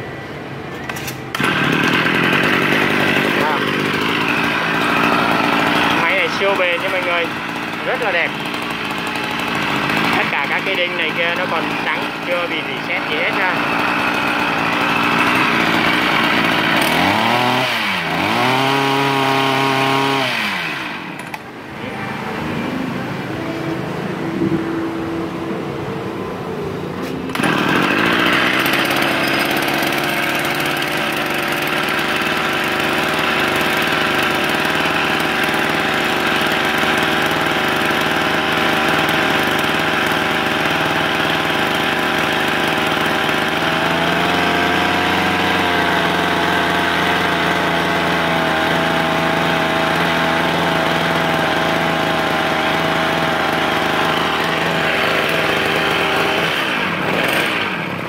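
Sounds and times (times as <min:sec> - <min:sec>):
brush cutter engine revving: 0:00.0 - 0:22.2, 0:26.9 - 0:58.0.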